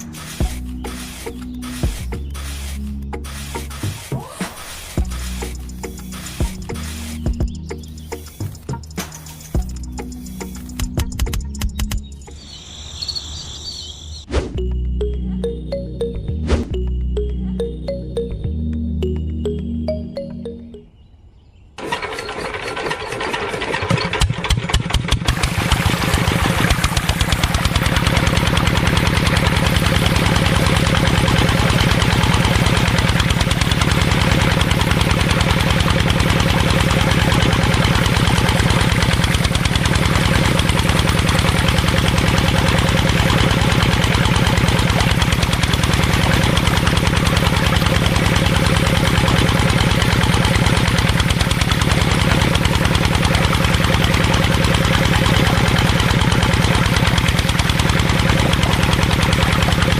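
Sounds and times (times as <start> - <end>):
small diesel engine running: 0.0 - 11.1, 21.8 - 59.9.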